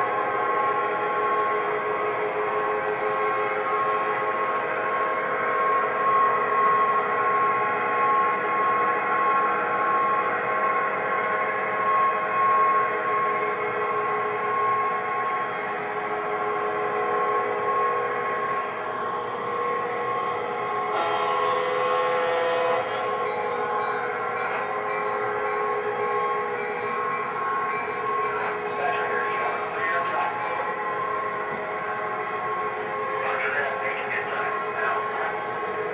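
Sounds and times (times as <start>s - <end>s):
constant high tone: 0.0s - 35.9s
model train whining: 0.0s - 35.9s.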